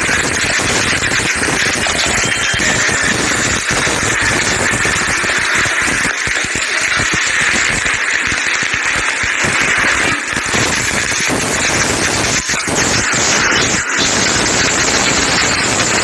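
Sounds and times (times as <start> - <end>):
eggs sizzling in hot oil: 0.0 - 16.0.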